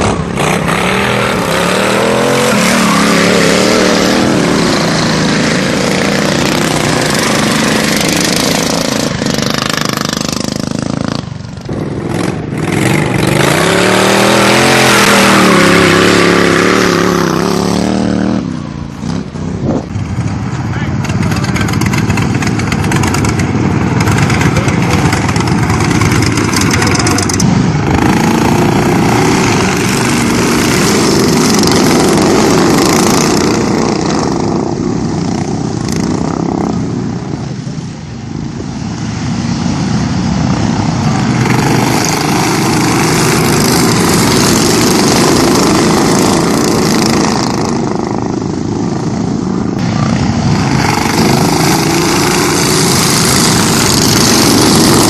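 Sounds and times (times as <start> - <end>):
lawn mower engines at high revs: 0.0 - 37.4, 39.5 - 55.0.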